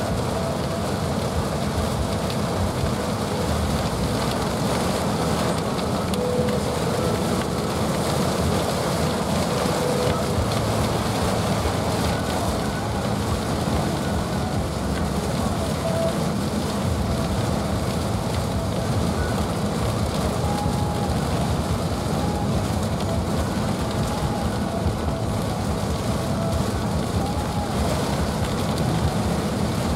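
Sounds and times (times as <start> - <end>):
heavy rain on vehicle roof: 0.0 - 29.9.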